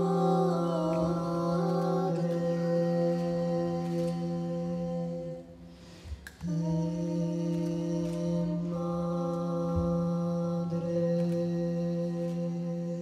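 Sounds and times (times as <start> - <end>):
women singing a cappella: 0.0 - 13.0.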